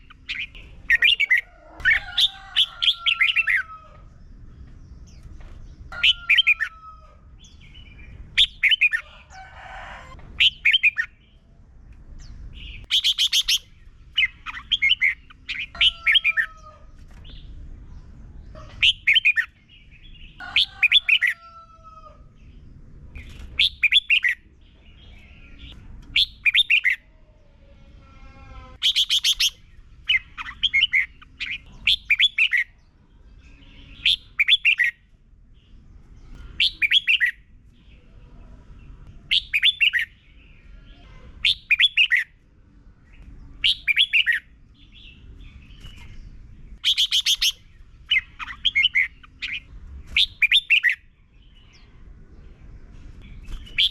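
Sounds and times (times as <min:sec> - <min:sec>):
bird chirping song: 0:00.0 - 0:53.9.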